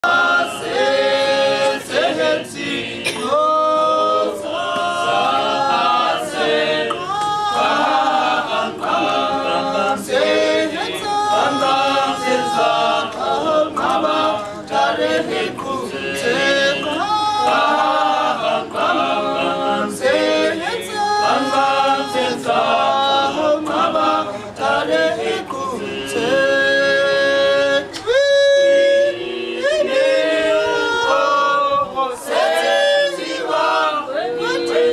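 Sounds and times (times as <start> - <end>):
men's choir singing a cappella: 0.0 - 34.9.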